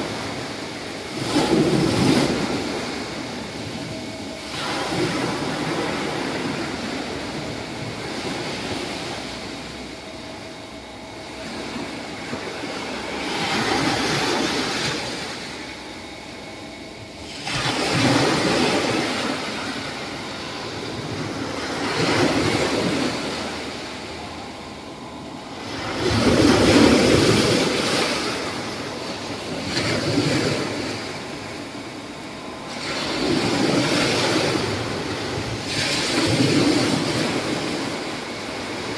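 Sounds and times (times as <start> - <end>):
waves breaking on sandy beach: 0.0 - 10.0, 11.2 - 16.4, 17.2 - 24.8, 25.4 - 38.9.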